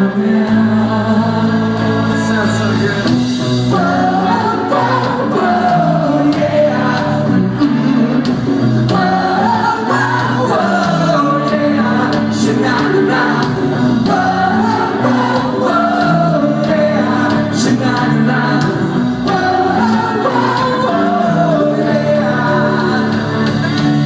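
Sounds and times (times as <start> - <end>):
drums: 0.0 - 24.0
electric guitars: 0.0 - 24.0
person singing: 0.0 - 24.0.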